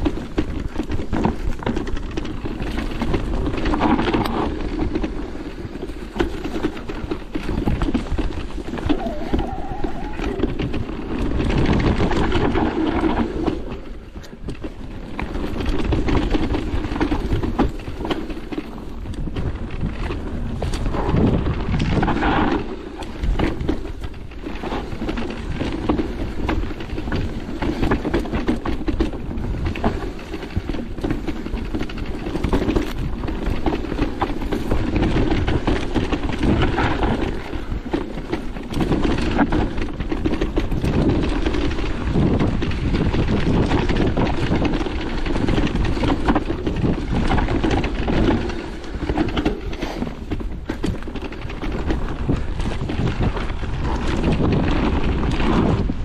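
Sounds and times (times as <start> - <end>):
bike rattles and knocks: 0.0 - 56.0
tyre rumble on rough trail: 0.0 - 56.0
wind buffeting microphone: 0.0 - 56.0.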